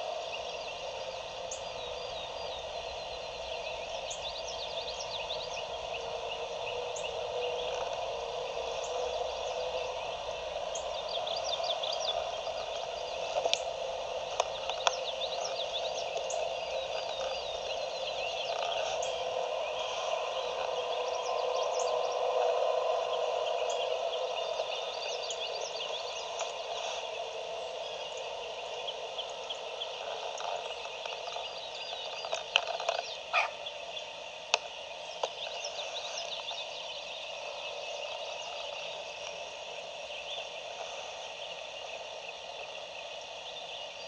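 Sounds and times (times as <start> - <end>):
songbirds chirping and singing: 0.0 - 44.0.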